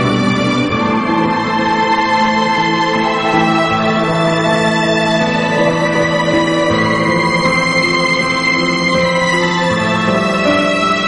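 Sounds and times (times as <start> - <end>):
slow sustained chords: 0.0 - 11.0.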